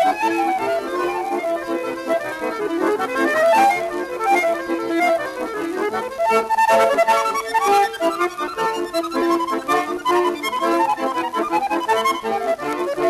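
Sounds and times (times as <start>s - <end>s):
instrumental music with busy melody: 0.0s - 13.0s.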